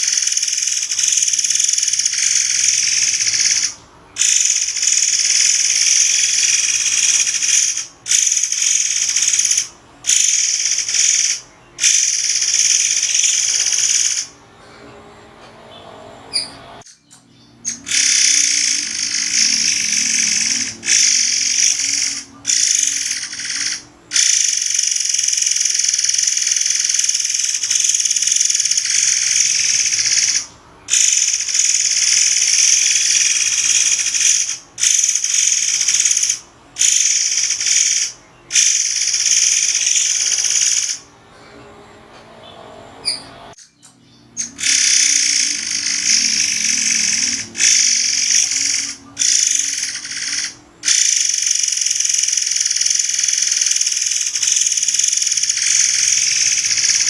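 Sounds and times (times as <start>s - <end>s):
bird singing piercing notes: 0.0s - 14.4s, 15.7s - 41.1s, 42.4s - 57.0s.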